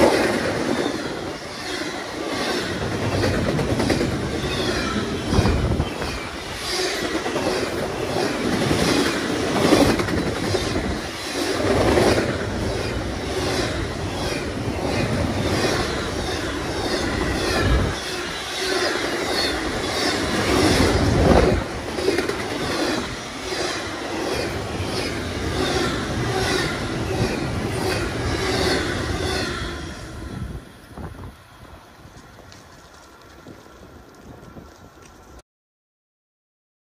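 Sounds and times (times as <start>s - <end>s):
freight train rumbling past: 0.0s - 34.6s.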